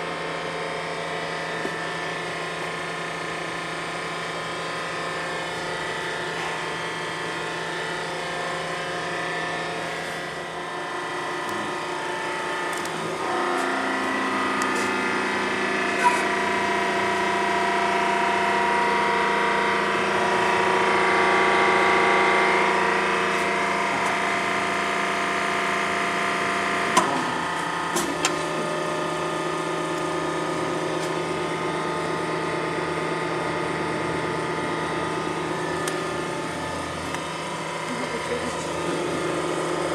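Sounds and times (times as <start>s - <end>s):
hydraulic pump humming: 0.0s - 39.9s.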